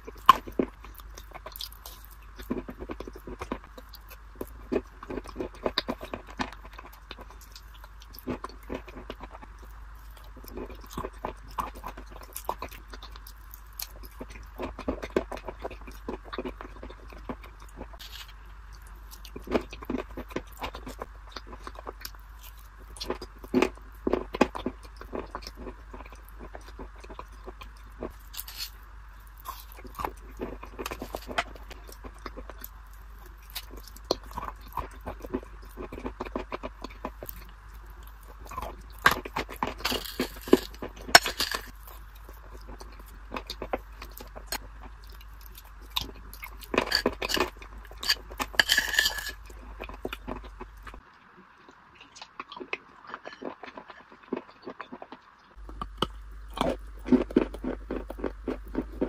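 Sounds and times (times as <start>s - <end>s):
steady low hum: 0.0s - 54.0s, 55.2s - 59.0s
crisp crunches of chewing nuts: 0.0s - 59.0s.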